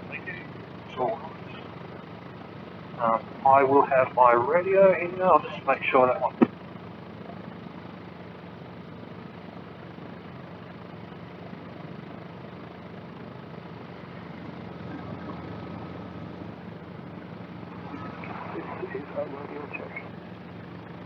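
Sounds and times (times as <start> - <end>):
helicopter engine and rotor idling: 0.0 - 21.0.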